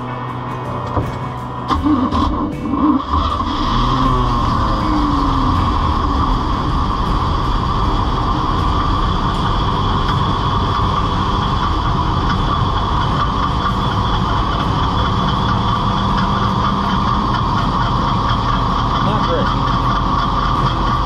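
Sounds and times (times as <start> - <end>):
boat engine running: 0.0 - 21.0
high-pitched squeal: 0.0 - 21.0.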